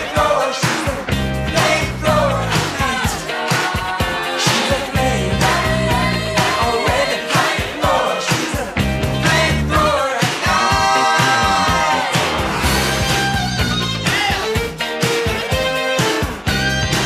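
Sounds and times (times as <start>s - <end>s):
person singing: 0.0s - 14.7s
drums and bass beat: 0.0s - 17.0s.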